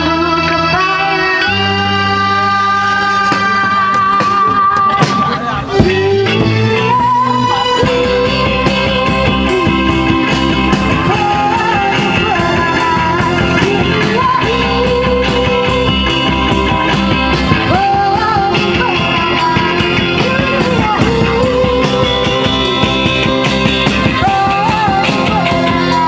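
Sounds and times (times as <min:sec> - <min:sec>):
live rock band: 0:00.0 - 0:26.0
woman singing lead: 0:00.0 - 0:26.0.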